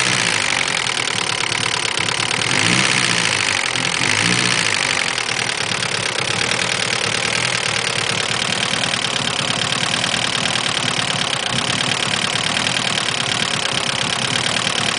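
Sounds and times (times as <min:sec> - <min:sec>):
car engine idling with ticking: 0:00.0 - 0:14.9.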